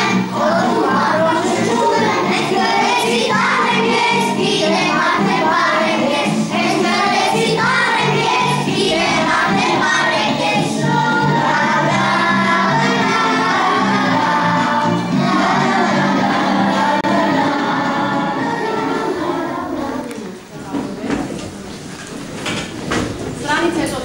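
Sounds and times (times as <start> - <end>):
children singing in unison: 0.0 - 20.5.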